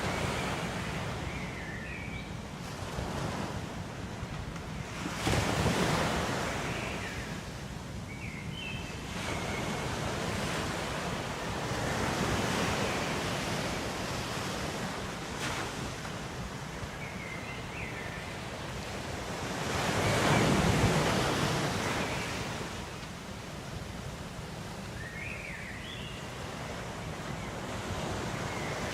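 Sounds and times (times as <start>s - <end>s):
ocean waves on shore: 0.0s - 28.9s.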